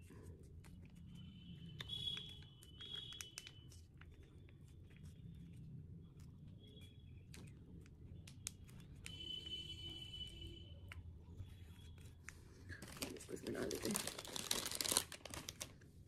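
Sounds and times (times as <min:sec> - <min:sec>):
low room hum: 0:00.0 - 0:16.0
packet clicks and crinkles: 0:00.0 - 0:16.0.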